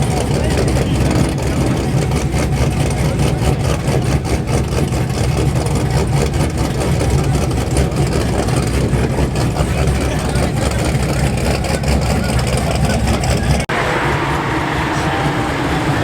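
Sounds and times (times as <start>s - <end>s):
truck engine droning: 0.0s - 16.0s.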